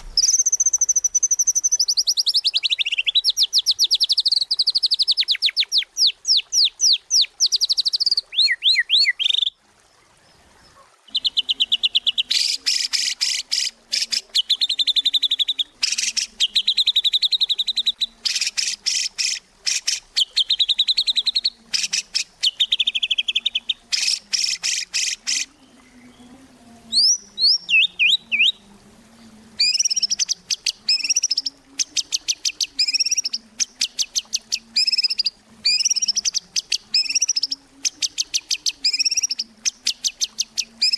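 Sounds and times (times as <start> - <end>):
bird singing trills: 0.0 - 9.5, 11.1 - 28.7, 29.6 - 40.9.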